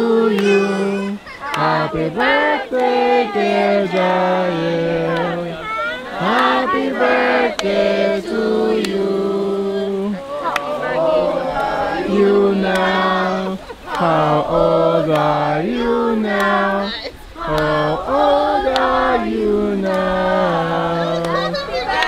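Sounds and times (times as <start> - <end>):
children and woman singing: 0.0 - 22.0.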